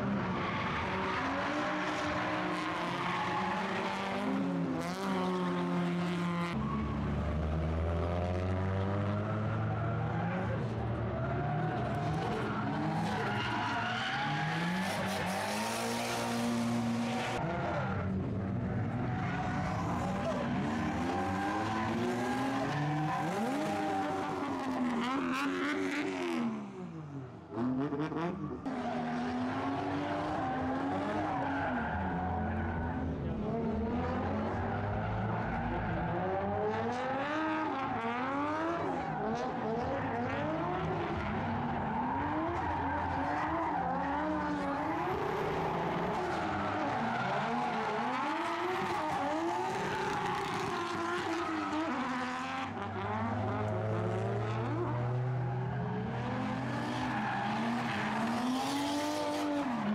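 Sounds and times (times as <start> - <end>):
tyres skidding: 0.1 - 26.4, 28.0 - 59.9.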